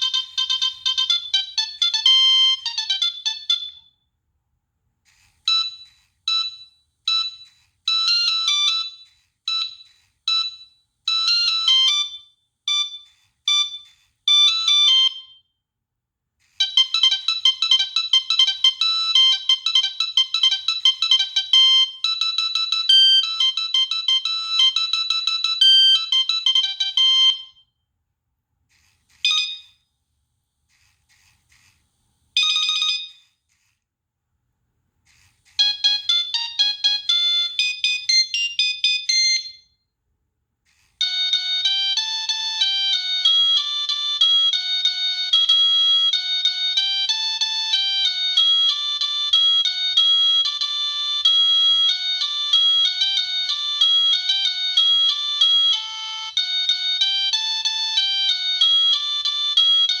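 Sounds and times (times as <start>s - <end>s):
mobile phone ringtones: 0.0s - 3.9s, 5.1s - 15.4s, 16.6s - 27.6s, 29.2s - 29.8s, 32.4s - 33.4s, 35.6s - 39.7s, 41.0s - 60.0s.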